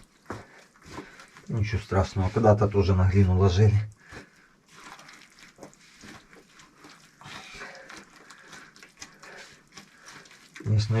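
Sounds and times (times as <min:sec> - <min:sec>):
scraping wet mortar: 0:00.0 - 0:11.0.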